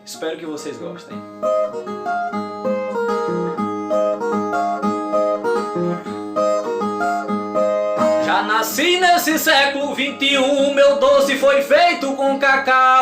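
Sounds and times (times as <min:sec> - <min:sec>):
folk guitar melody picked: 0:00.0 - 0:13.0.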